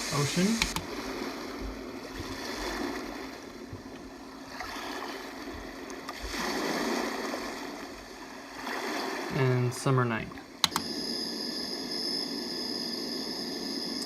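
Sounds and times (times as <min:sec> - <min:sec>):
recorded surf noise from speaker: 0:00.0 - 0:14.0.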